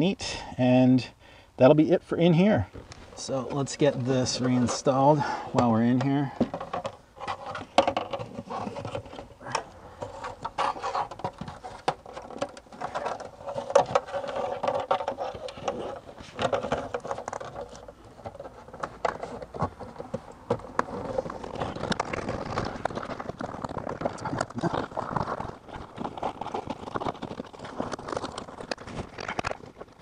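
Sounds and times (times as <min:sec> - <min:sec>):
plastic panel rubbing and scraping: 0:02.8 - 0:30.0
plastic clicks and knocks: 0:05.6 - 0:30.0.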